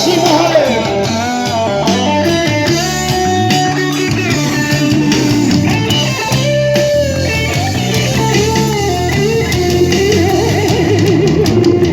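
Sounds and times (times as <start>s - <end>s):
bass guitar: 0.0s - 11.9s
electric guitar lead line: 0.0s - 11.9s
rhythm guitar: 0.0s - 11.9s.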